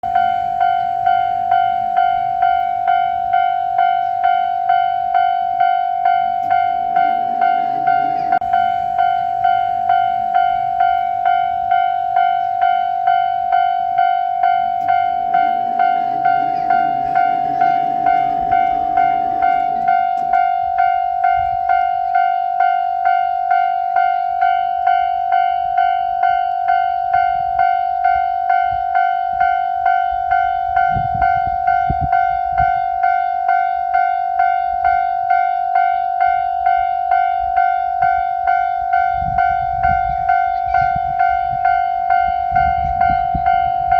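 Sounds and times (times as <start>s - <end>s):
railroad crossing warning bell: 0.0s - 43.9s.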